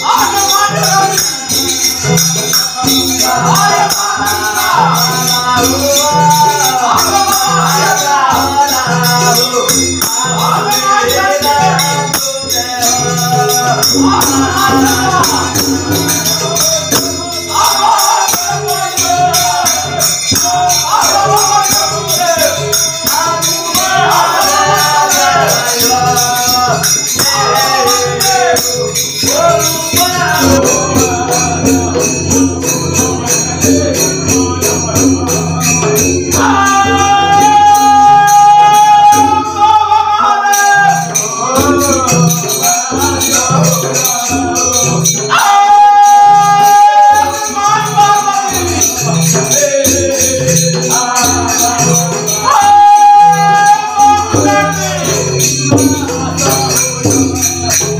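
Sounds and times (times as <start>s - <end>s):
devotional singing: 0.0s - 57.9s
hand cymbals clashing: 0.0s - 57.9s
hand drum rhythm: 0.0s - 57.9s.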